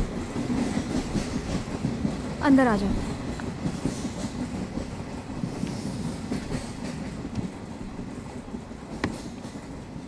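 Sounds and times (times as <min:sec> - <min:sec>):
train wheels clattering: 0:00.0 - 0:02.4, 0:03.1 - 0:10.0
train carriages rumbling: 0:00.0 - 0:10.0.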